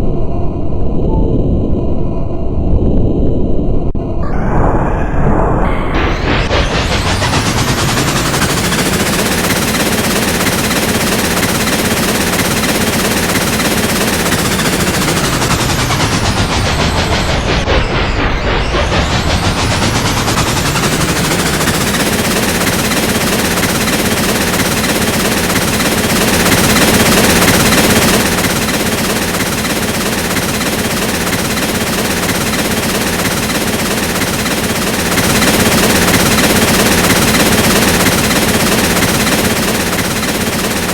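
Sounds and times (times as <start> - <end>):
train rattling clatter: 5.7 - 40.9.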